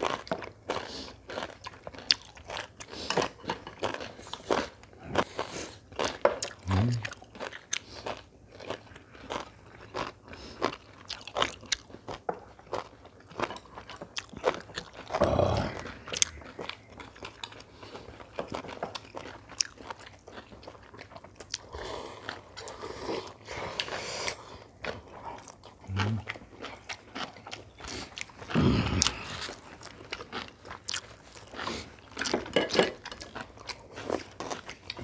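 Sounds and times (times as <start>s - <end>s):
chewing crunchy food: 0.0s - 35.0s.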